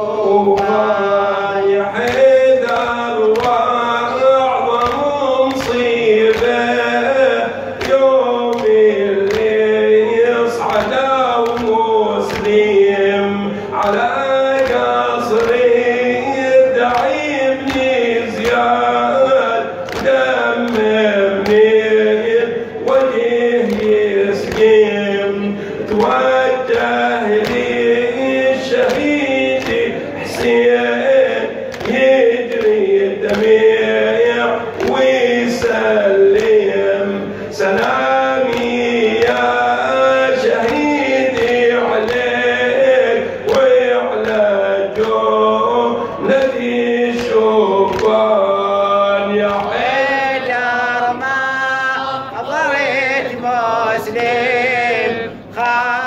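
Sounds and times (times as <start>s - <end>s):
men singing a lament: 0.0s - 56.0s.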